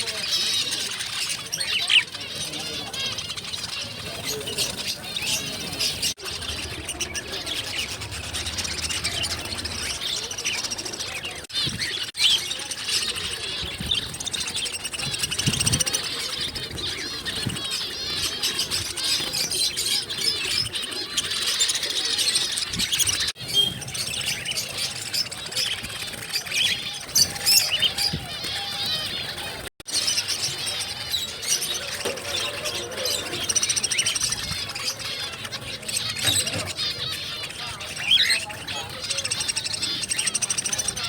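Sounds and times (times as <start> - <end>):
cage birds chirping: 0.0 - 41.0.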